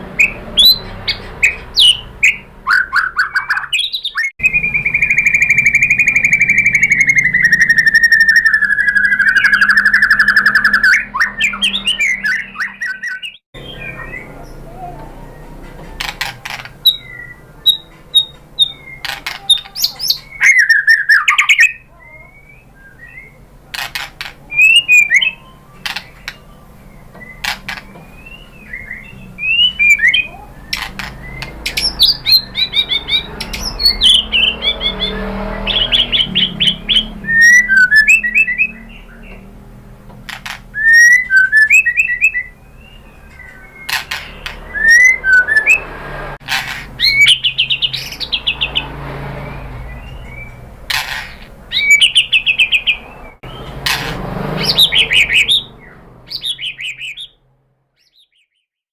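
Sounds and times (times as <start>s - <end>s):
songbird whistling and trilling: 0.2s - 39.5s, 40.4s - 46.0s, 47.0s - 53.8s, 54.6s - 57.4s, 58.0s - 58.7s.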